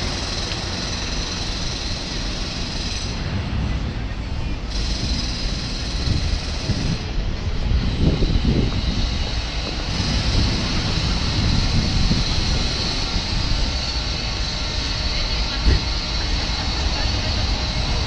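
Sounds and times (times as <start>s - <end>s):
city street rumble: 0.0s - 18.0s.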